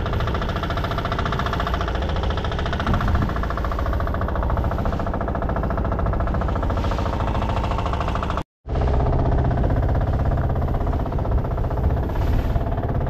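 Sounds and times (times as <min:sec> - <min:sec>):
outboard boat motor running: 0:00.0 - 0:13.0.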